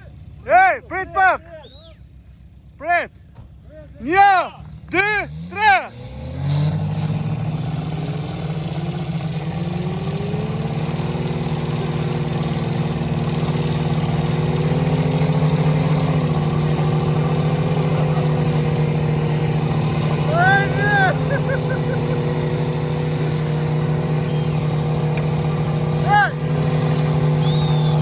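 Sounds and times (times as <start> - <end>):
motocross bike engine: 0.0 - 28.0.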